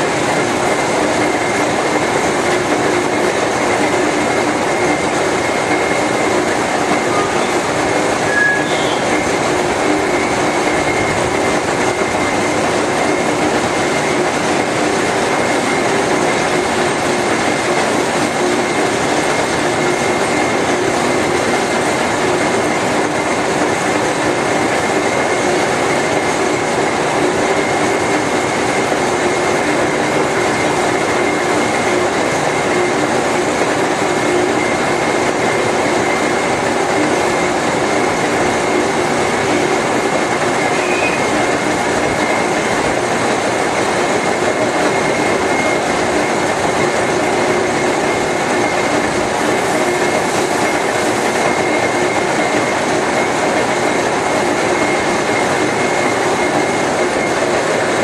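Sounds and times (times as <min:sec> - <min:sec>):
machine drone with high whine: 0:00.0 - 0:58.0.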